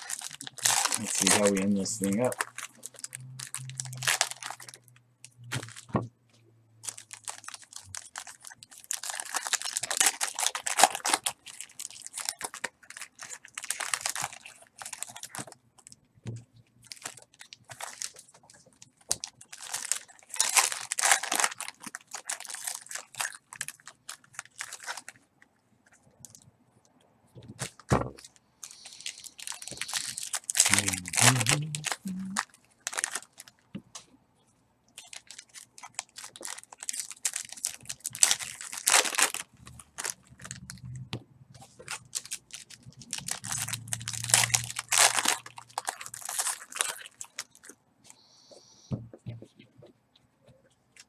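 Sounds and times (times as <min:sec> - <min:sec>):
foil wrapper crinkling and tearing: 0:00.0 - 0:06.0, 0:06.8 - 0:16.0, 0:16.8 - 0:25.2, 0:27.6 - 0:33.6, 0:35.0 - 0:40.8, 0:41.6 - 0:47.8.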